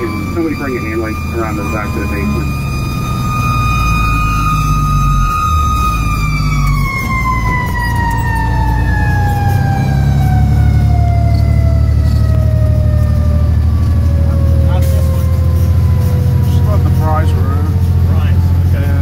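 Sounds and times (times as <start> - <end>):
mechanical siren winding down: 0.0 - 19.0
truck engine rumble: 0.0 - 19.0.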